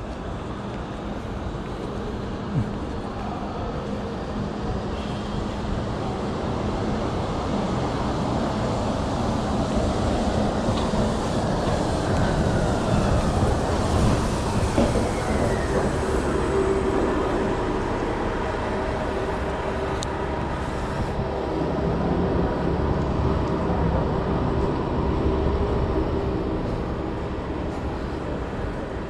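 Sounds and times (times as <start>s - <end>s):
large vehicle rumble: 0.0s - 29.0s.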